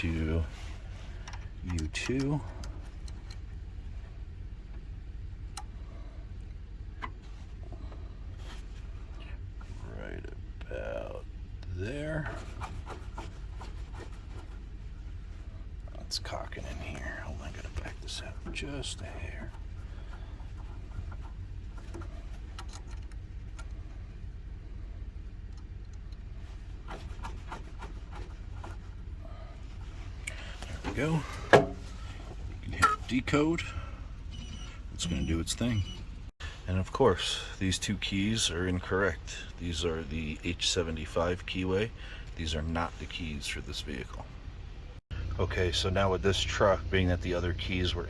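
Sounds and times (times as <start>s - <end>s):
low steady machine hum: 0.0s - 48.0s.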